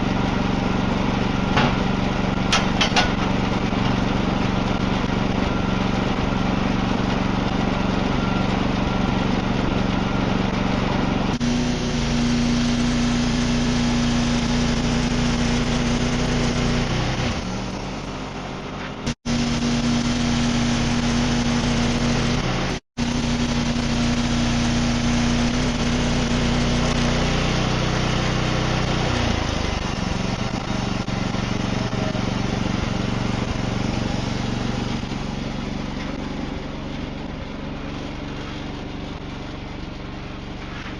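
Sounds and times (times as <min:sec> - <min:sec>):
band sawmill engine droning: 0:00.0 - 0:40.9.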